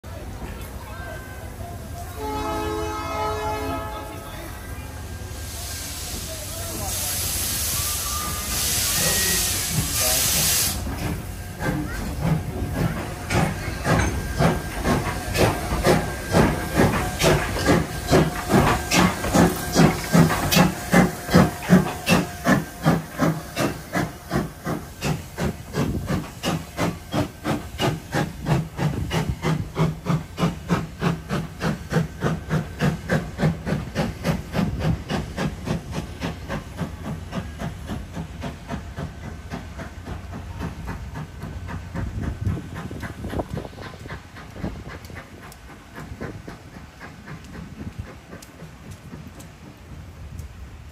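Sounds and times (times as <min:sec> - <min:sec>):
steam hissing: 0:00.3 - 0:50.9
steam locomotive exhaust chuffs: 0:01.9 - 0:50.9.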